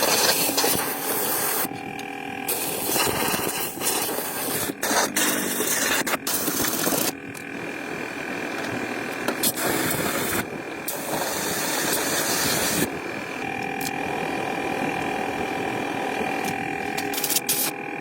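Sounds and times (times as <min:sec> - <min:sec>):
steady machine whine: 0:00.0 - 0:18.0.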